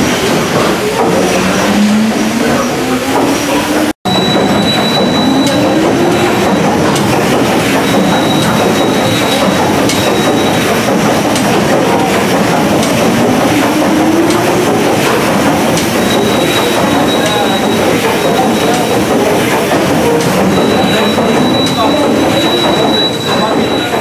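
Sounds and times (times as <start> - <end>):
steam engine clattering: 0.0 - 24.0.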